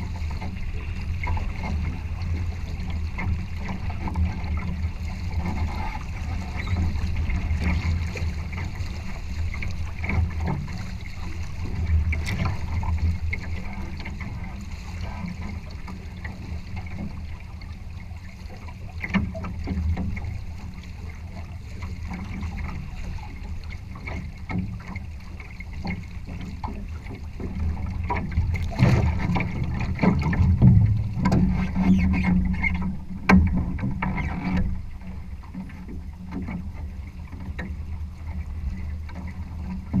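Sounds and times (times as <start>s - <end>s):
water rushing along hull: 0.0s - 40.0s
water slapping hull: 0.0s - 40.0s.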